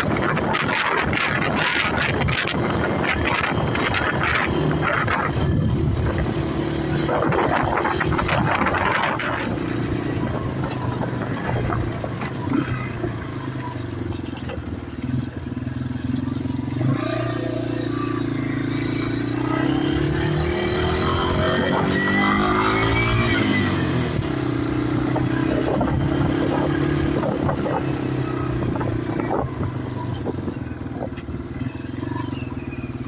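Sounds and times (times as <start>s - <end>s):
wind buffeting microphone: 0.0s - 15.9s, 16.5s - 33.0s
motorcycle engine running: 0.0s - 33.0s.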